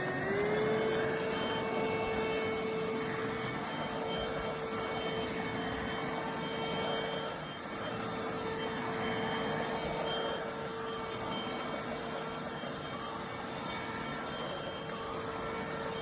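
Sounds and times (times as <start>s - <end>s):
stick vacuum running: 0.0s - 16.0s.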